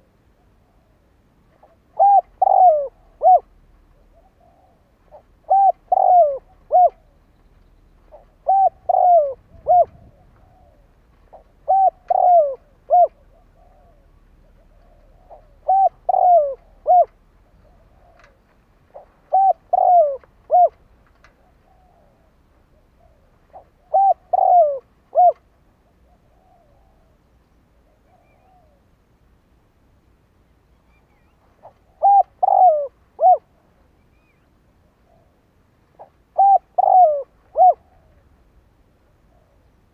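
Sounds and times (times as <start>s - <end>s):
dove cooing: 0.0s - 28.9s, 30.9s - 39.9s.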